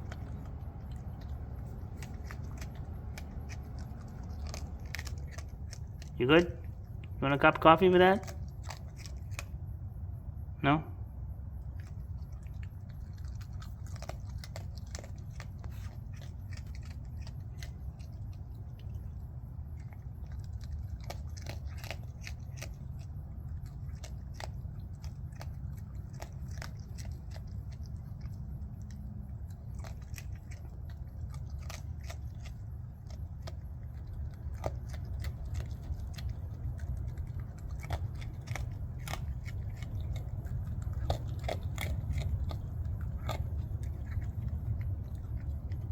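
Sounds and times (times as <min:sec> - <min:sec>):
raccoon crunching dry kibble: 0:00.0 - 0:10.2, 0:11.4 - 0:45.9
steady low hum: 0:00.0 - 0:45.9.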